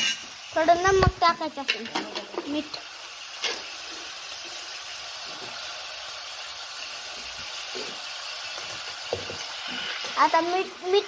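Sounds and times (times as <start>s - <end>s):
bean pods sizzling in hot oil: 0.0s - 11.0s.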